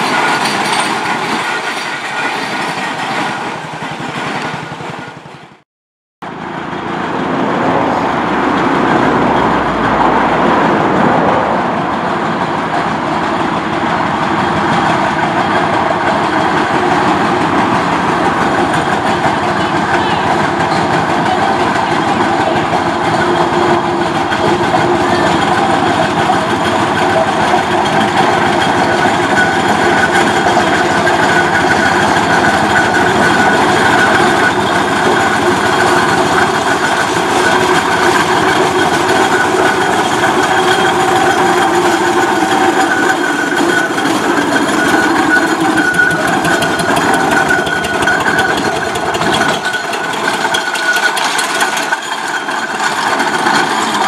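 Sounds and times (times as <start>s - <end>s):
steam roller clatter and rumble: 0.0s - 5.6s, 6.2s - 54.0s.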